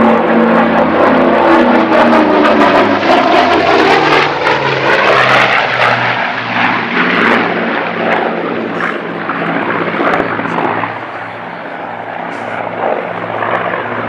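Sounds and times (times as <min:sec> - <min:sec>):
aircraft radial engines running: 0:00.0 - 0:14.0.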